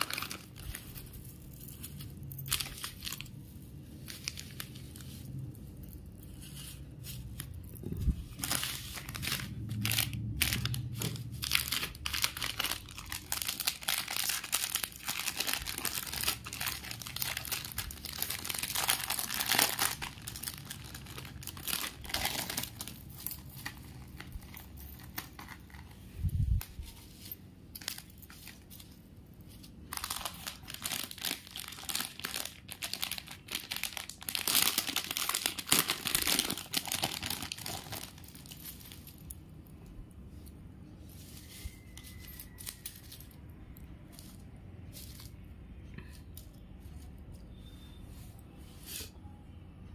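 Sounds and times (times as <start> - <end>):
plastic and bubble wrap crinkling: 0.0 - 39.4, 40.2 - 49.2.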